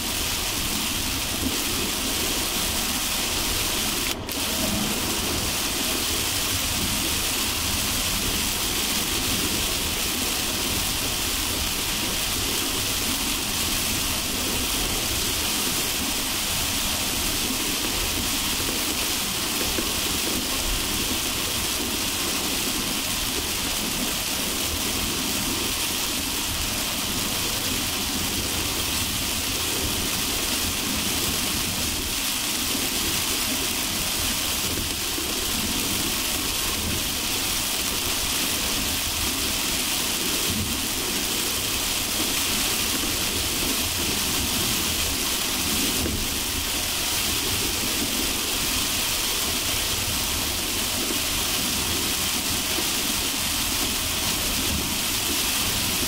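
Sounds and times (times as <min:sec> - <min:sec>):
heavy rain on a moving car: 0:00.0 - 0:56.0
tyres rumbling on wet road: 0:00.0 - 0:56.0.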